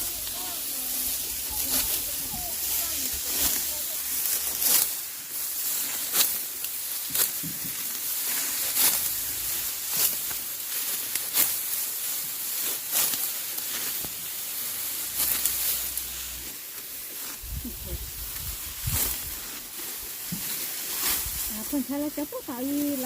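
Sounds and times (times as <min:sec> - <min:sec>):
dry stalks rustling and swishing: 0:00.0 - 0:23.0
steady hiss: 0:00.0 - 0:23.0.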